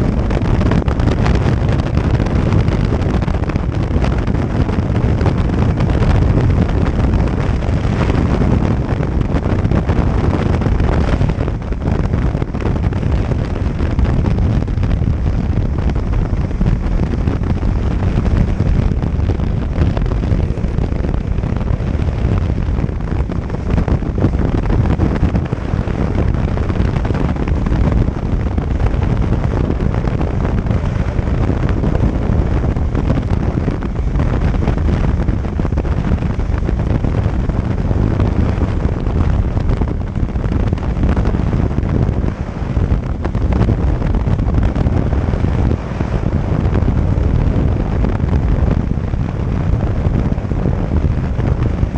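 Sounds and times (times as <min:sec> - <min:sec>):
jet ski engine: 0:00.0 - 0:51.9
wind rumble on microphone: 0:00.0 - 0:51.9.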